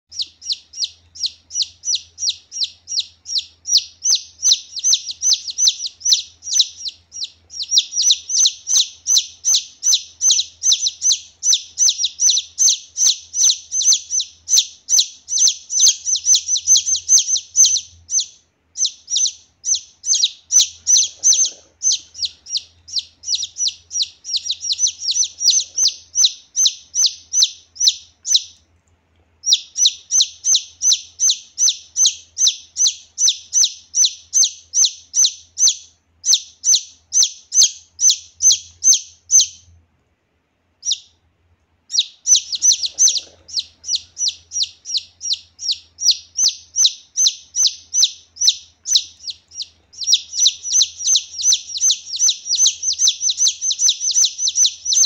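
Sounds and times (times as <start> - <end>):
chick peeping: 0.1 - 28.7, 29.4 - 39.7, 40.8 - 41.2, 41.9 - 55.0.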